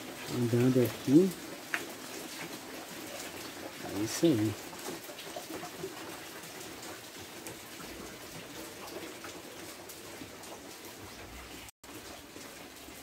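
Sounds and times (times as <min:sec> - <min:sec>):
raindrop taps: 0:00.0 - 0:13.0
steady rain falling: 0:00.0 - 0:13.0.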